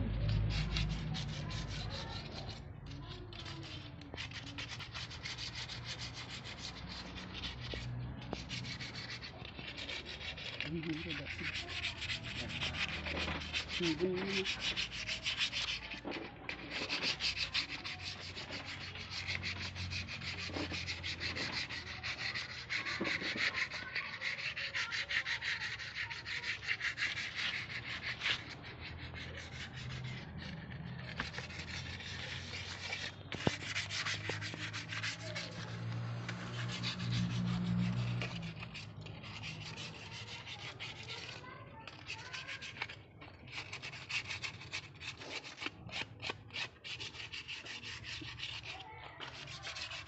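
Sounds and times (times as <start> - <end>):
gritty scraping of sanding cement: 0.0 - 50.0.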